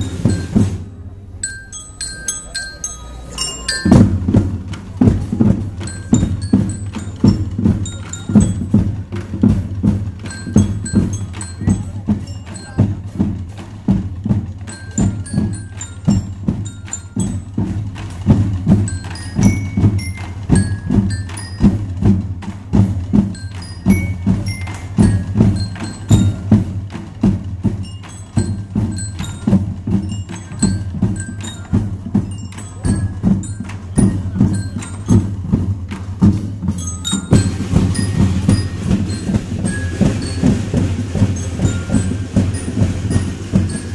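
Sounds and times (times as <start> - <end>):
glockenspiel melody: 0.0 - 43.9
marching drums beating: 0.0 - 43.9.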